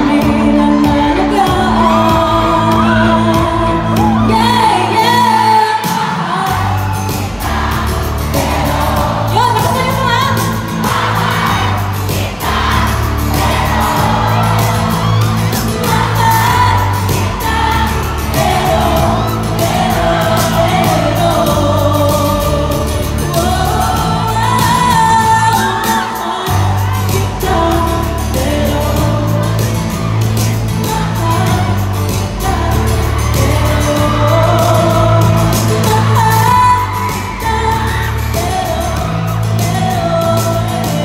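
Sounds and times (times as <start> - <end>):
pop backing track with bass beat: 0.0 - 41.0
woman singing into a microphone: 0.0 - 41.0.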